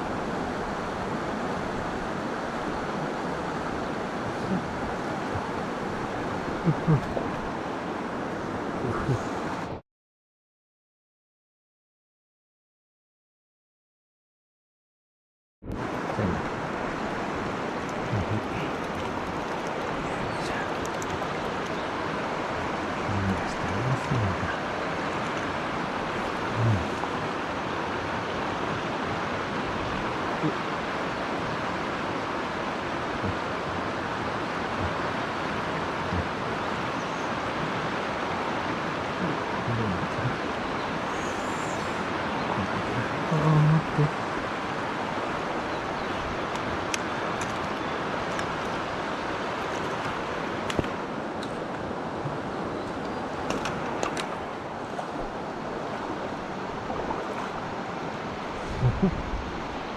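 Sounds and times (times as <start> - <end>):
stream rushing over rocks: 0.0 - 9.8, 15.7 - 59.9.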